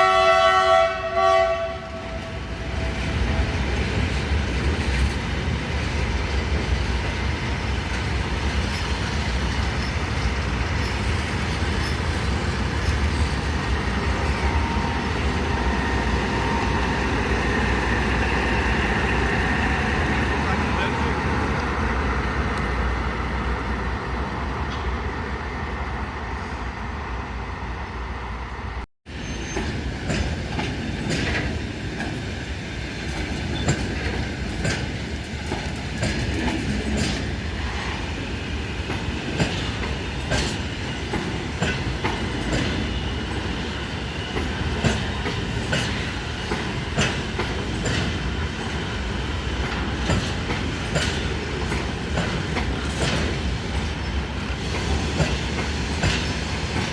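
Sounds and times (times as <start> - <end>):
freight train rumbling: 0.0 - 56.9
wheels clacking over rail joints: 2.2 - 23.6, 29.4 - 56.9.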